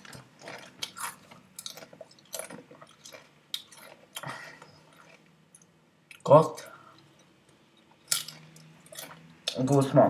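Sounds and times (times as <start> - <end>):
potato chip crunching: 0.0 - 6.7, 8.0 - 10.0.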